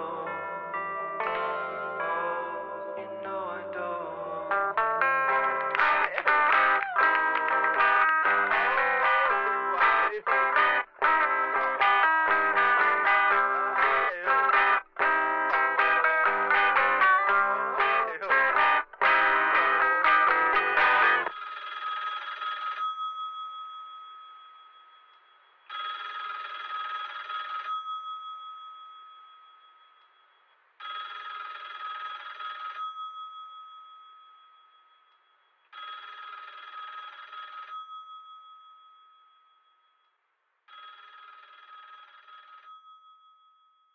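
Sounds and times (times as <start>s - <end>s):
telephone bell ringing: 0.8s - 40.0s, 40.7s - 43.9s.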